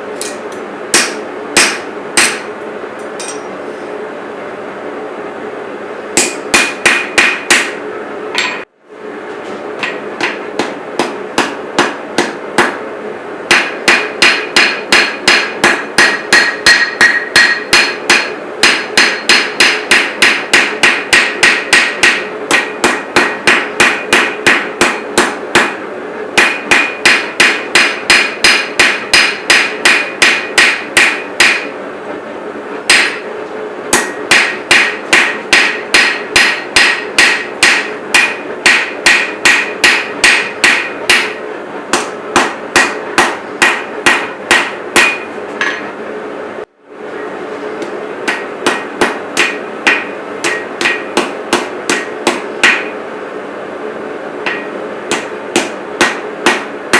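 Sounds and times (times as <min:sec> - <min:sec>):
steady low hum: 0:00.0 - 0:56.9
hammer striking steel on anvil: 0:00.2 - 0:03.6, 0:06.2 - 0:08.7, 0:09.8 - 0:12.8, 0:13.5 - 0:25.8, 0:26.4 - 0:31.8, 0:32.9 - 0:33.3, 0:33.9 - 0:46.0, 0:47.8 - 0:53.0, 0:54.4 - 0:56.8.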